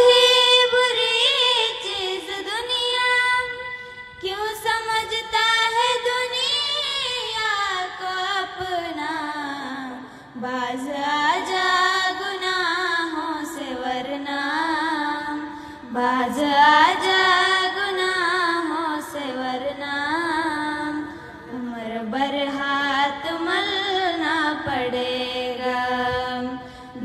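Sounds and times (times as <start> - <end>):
girls singing: 0.0 - 27.0.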